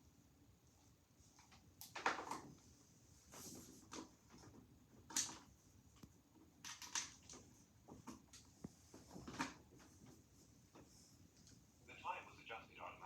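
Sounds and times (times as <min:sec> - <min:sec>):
faint handling rustles and clicks: 0:00.7 - 0:11.7.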